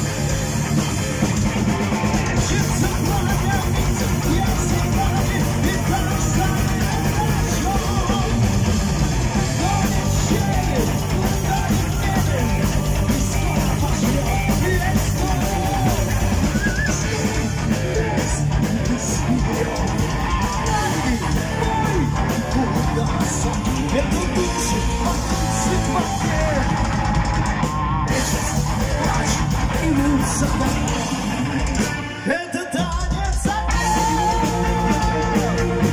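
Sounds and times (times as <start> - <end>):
man singing: 0.0 - 27.0, 28.1 - 35.9
distorted electric guitars: 0.0 - 35.9
drum kit: 0.0 - 35.9.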